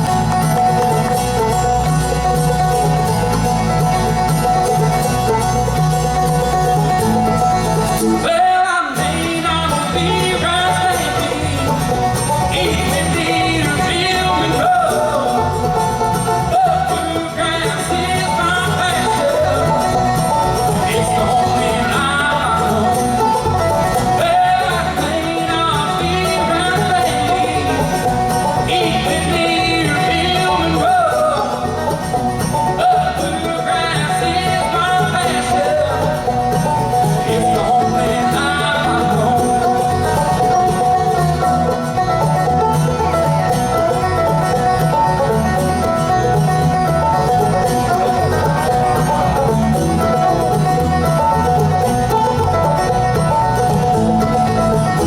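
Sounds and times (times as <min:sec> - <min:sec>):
bluegrass band playing: 0:00.0 - 0:55.0
voices singing: 0:00.0 - 0:55.0.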